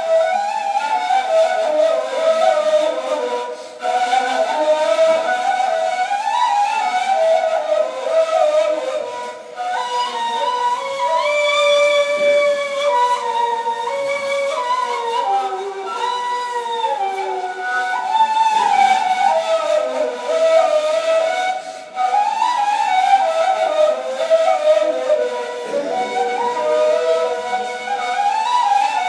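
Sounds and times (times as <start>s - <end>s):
reed flutes playing melody: 0.0s - 29.0s.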